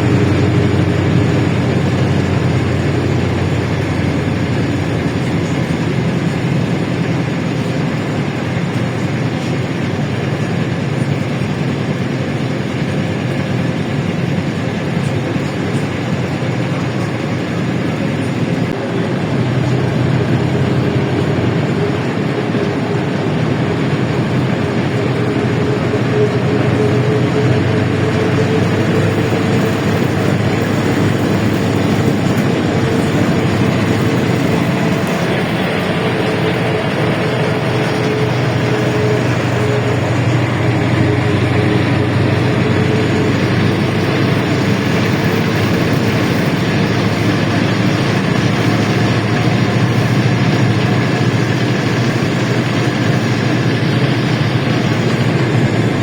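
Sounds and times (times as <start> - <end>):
bus engine running: 0.0 - 56.0
road noise: 0.0 - 56.0.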